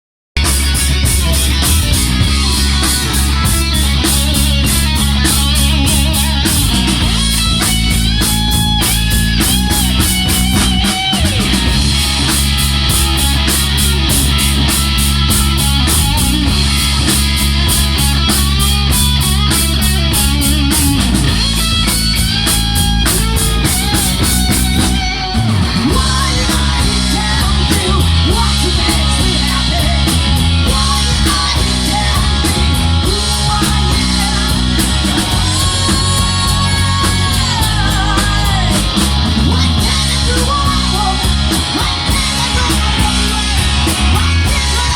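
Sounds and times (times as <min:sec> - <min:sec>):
bass guitar: 0:00.4 - 0:44.9
drums with fast beat: 0:00.4 - 0:44.9
electric guitars: 0:00.4 - 0:44.9.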